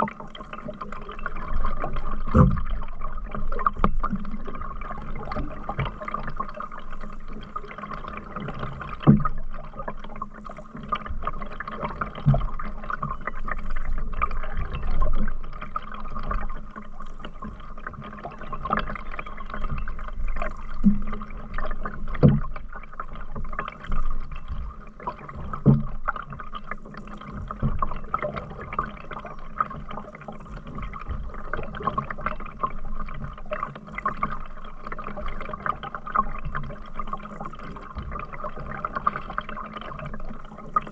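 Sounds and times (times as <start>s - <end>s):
paddle strokes through water: 0.0s - 40.9s.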